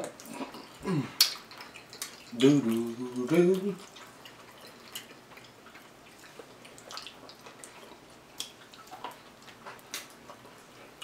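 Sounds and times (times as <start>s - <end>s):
mouths chewing wetly: 0.1s - 11.0s.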